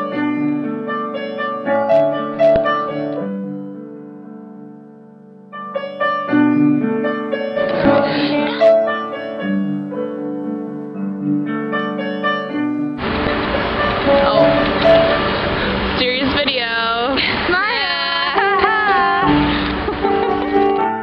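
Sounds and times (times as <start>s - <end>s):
piano background music: 0.0s - 17.2s, 17.9s - 21.0s.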